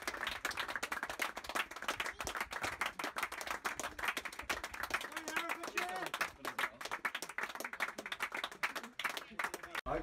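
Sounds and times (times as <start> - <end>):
spectators applauding: 0.0 - 9.9.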